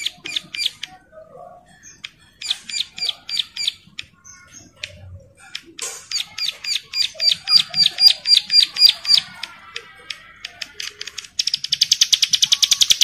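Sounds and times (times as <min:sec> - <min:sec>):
bird singing: 0:00.0 - 0:09.4, 0:11.3 - 0:13.0.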